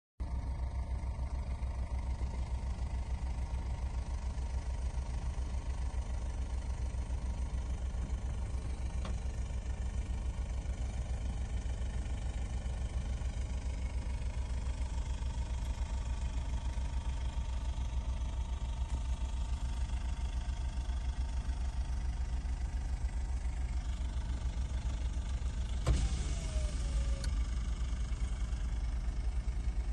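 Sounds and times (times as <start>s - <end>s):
car engine idling: 0.2s - 29.9s.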